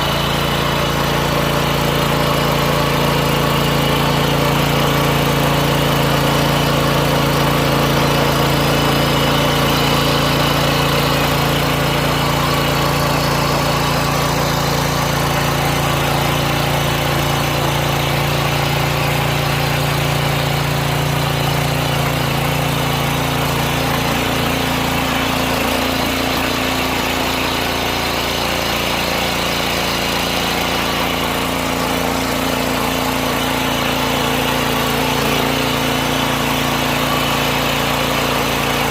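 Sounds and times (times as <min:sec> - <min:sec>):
small tiller engine running: 0:00.0 - 0:38.9.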